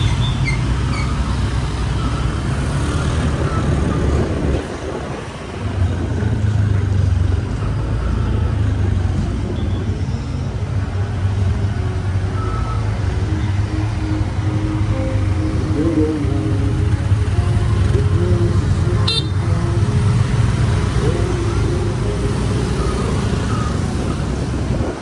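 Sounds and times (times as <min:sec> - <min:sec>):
nearby cars: 0:00.0 - 0:25.0.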